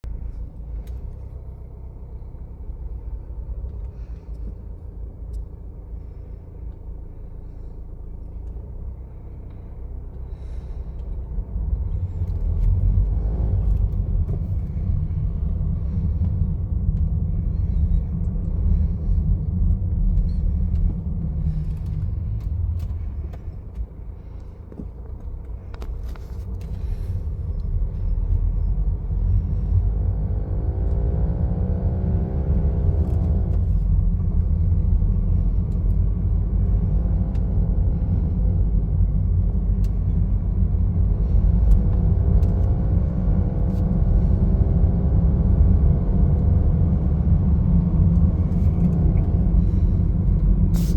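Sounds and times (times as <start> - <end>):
diesel car engine rumbling: 0.0 - 50.9.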